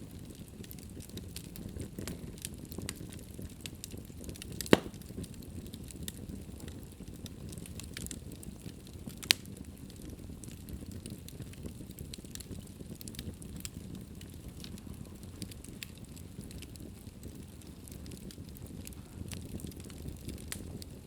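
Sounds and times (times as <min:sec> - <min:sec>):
wood fire crackling: 0:00.0 - 0:21.0
burning wood popping loudly: 0:00.2 - 0:21.0.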